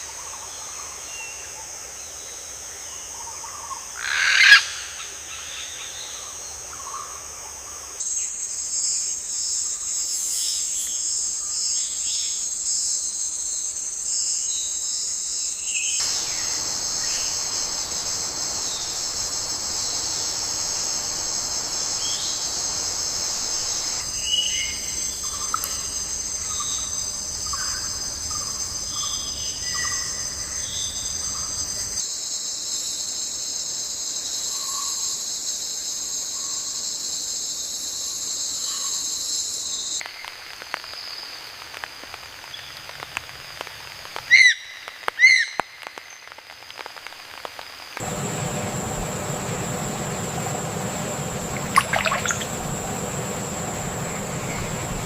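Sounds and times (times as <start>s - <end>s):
high insect chorus: 0.0s - 55.0s.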